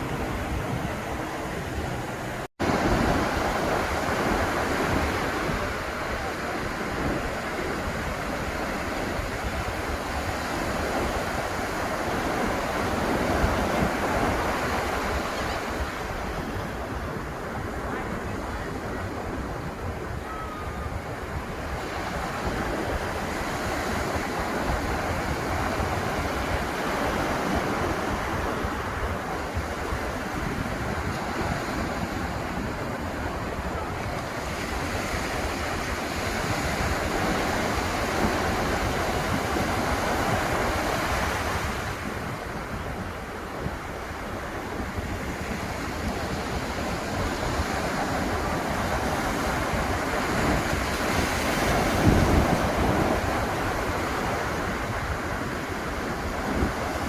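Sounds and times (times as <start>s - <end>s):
ocean waves breaking: 0.0s - 57.0s
wind buffeting microphone: 0.0s - 57.0s.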